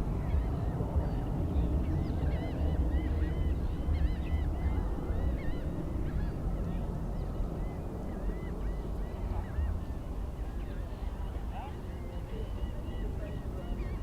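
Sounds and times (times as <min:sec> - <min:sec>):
low rumble: 0:00.0 - 0:11.5.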